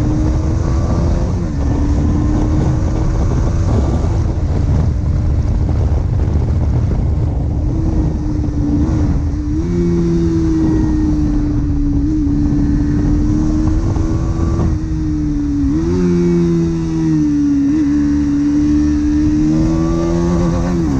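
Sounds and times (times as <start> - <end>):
motorcycle engine cruising: 0.0 - 20.9
wind rumble on microphone: 0.0 - 20.9.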